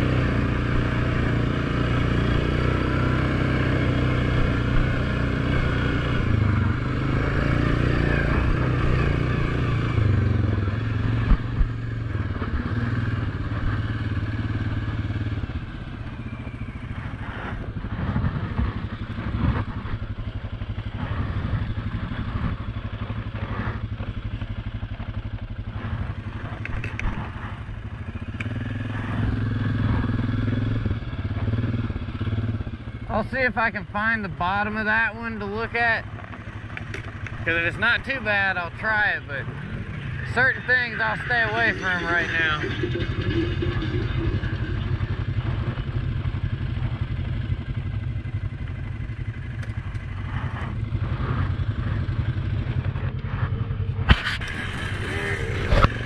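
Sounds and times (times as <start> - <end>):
atv engine running: 0.0 - 56.0
knocks and rattles on rough dirt: 4.2 - 14.0, 16.1 - 33.2, 34.0 - 56.0.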